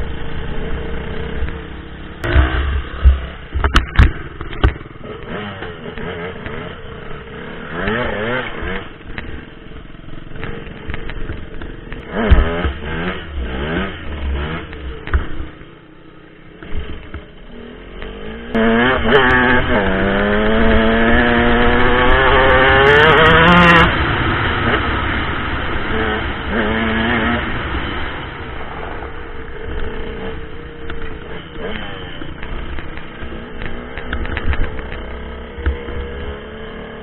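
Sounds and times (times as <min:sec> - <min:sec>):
dirt bike engine revving: 0:00.0 - 0:15.8, 0:16.5 - 0:37.0.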